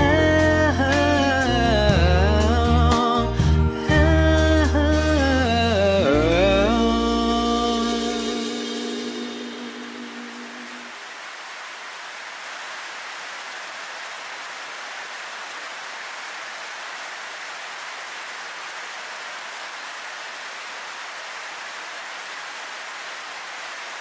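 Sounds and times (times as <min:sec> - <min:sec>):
steady rain falling: 0:04.6 - 0:24.0.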